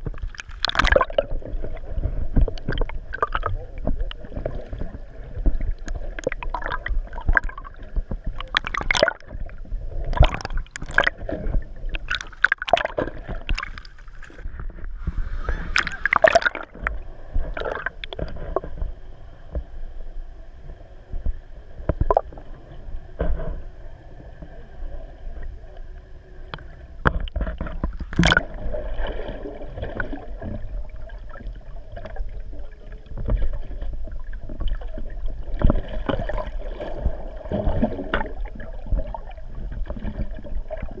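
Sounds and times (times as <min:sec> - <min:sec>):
bubbling: 0:00.0 - 0:18.9, 0:21.9 - 0:22.4, 0:26.5 - 0:41.0
knocks underwater: 0:00.0 - 0:18.9, 0:21.1 - 0:22.4, 0:26.6 - 0:32.2, 0:33.1 - 0:41.0
faint steady hum: 0:00.0 - 0:41.0
underwater rumble of moving water: 0:00.0 - 0:41.0.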